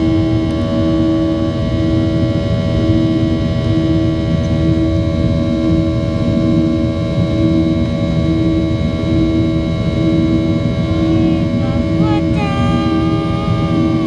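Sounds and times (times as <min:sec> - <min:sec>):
constant whining tones: 0:00.0 - 0:14.0
jet engines droning: 0:00.0 - 0:14.0
pulsing low hum: 0:00.0 - 0:14.0.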